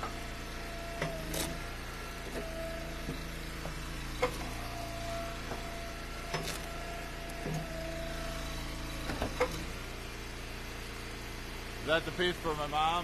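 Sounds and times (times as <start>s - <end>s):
hydraulic wood splitter engine: 0.0s - 13.0s.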